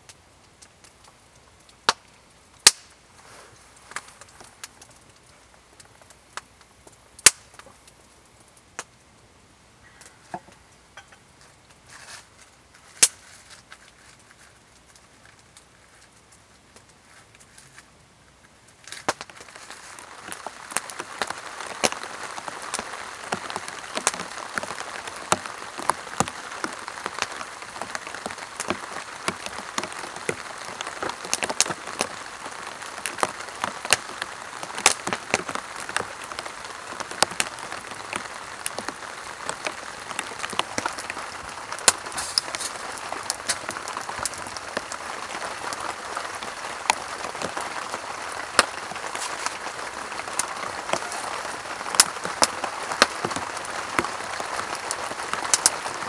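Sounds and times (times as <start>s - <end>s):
campfire crackling: 0.0s - 56.0s
rain pattering on tarp: 0.0s - 56.0s.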